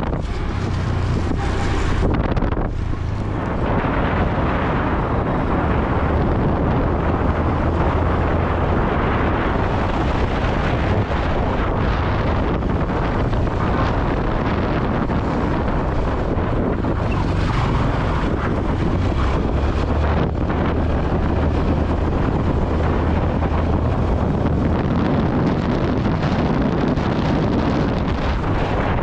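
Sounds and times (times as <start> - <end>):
road noise: 0.0 - 29.0
wind rush on microphone: 0.0 - 29.0.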